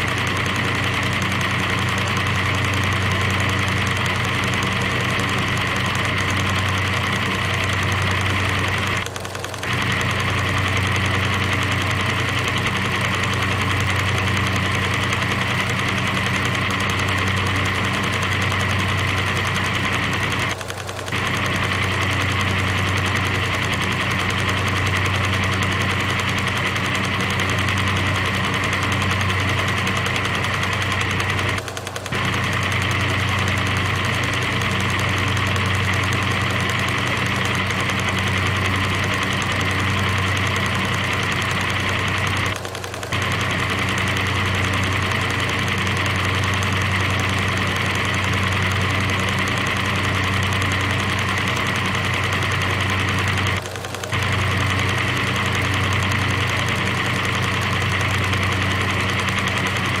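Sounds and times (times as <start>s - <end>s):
machine-like drone: 0.0s - 60.0s.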